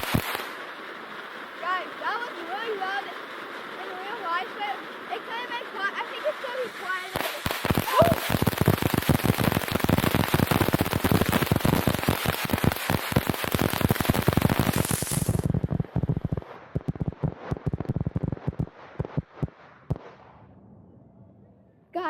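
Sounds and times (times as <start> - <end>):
firecracker bangs: 0.0 - 20.5.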